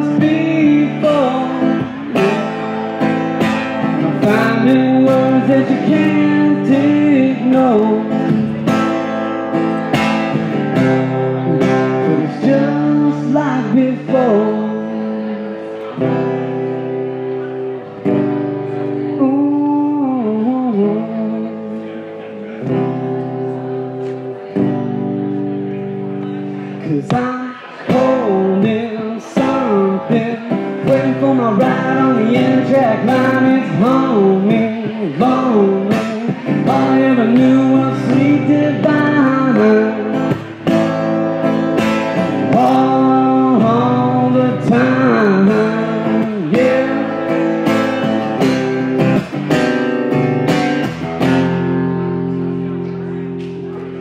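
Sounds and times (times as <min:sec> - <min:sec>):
person singing: 0:00.0 - 0:24.9, 0:26.7 - 0:49.6
strummed acoustic guitar: 0:00.0 - 0:54.0.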